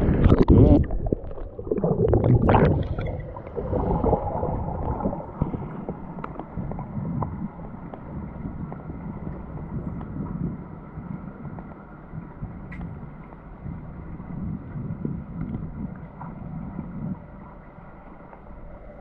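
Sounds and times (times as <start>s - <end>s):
low underwater rumble: 0.0s - 19.0s
underwater splashing and gurgling: 0.0s - 19.0s.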